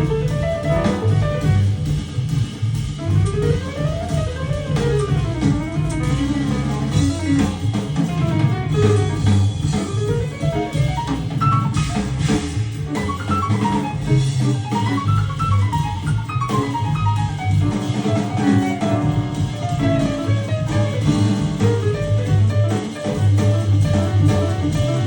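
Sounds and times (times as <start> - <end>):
instrumental music with bass and drums: 0.0 - 25.0.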